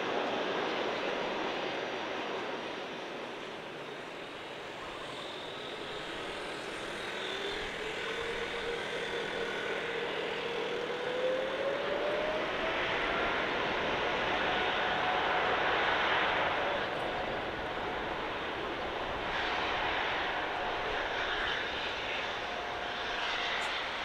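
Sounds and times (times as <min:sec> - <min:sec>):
jet engines hissing: 0:00.2 - 0:24.0
engine whine rising: 0:03.8 - 0:24.0.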